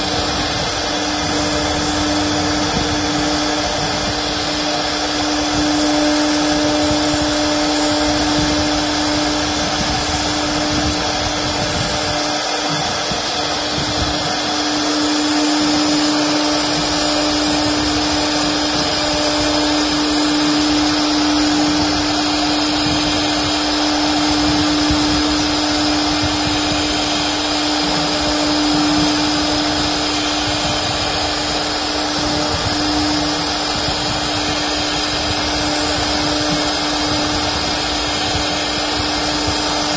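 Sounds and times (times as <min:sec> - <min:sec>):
continuous rushing noise: 0:00.0 - 0:39.9
router spindle whining: 0:00.0 - 0:39.9.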